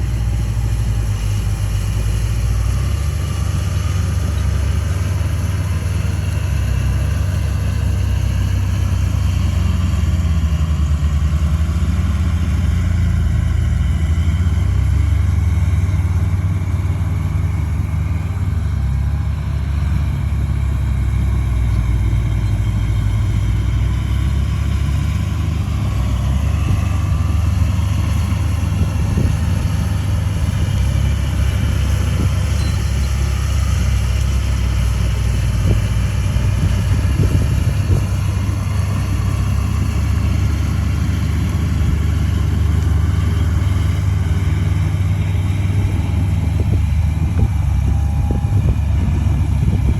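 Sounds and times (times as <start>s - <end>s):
heavy diesel engine rumbling: 0.0s - 49.9s.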